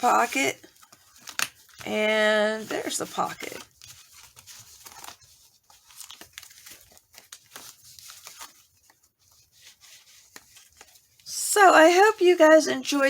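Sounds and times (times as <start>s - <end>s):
paper envelopes rustling: 0.0s - 13.0s.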